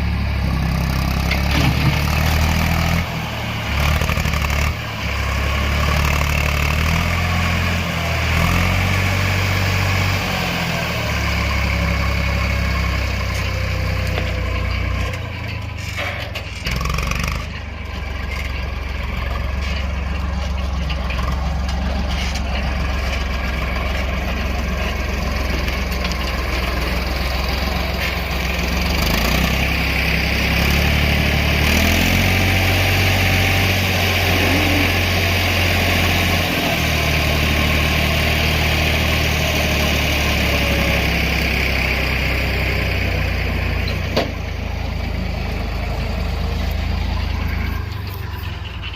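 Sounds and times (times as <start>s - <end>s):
tractor engine revving: 0.0s - 48.9s.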